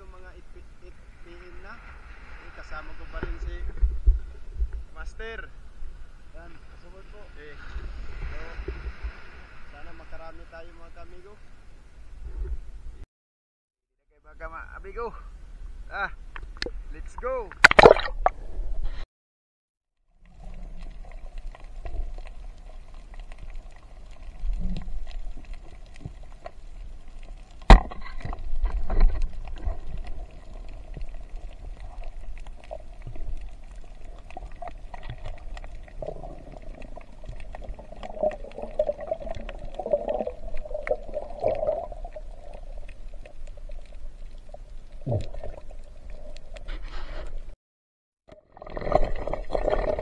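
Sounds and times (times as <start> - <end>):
muffled underwater water noise: 0.0 - 13.0, 14.5 - 19.0, 20.1 - 47.6, 48.3 - 50.0.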